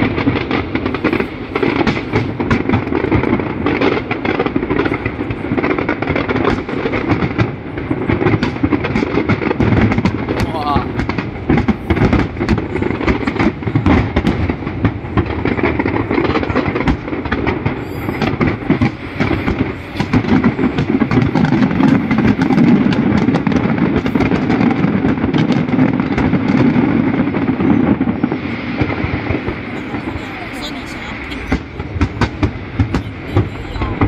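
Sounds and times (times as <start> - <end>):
fireworks cracks and bangs: 0.0 - 34.0.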